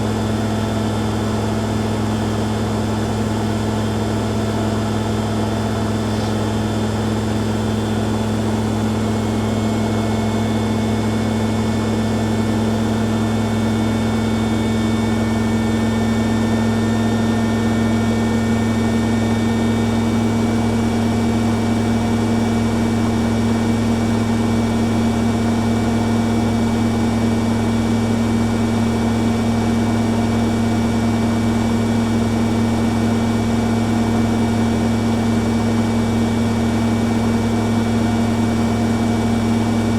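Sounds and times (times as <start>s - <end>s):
washing machines spinning: 0.0s - 39.9s.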